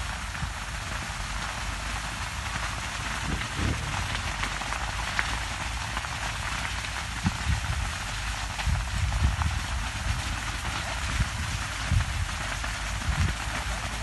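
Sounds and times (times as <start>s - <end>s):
burning field crackling: 0.0s - 14.0s
wind rumble on microphone: 0.0s - 14.0s.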